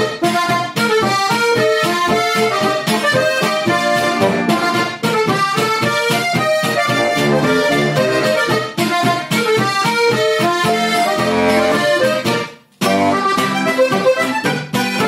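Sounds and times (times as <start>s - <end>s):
button accordion playing folk tune: 0.0s - 15.0s.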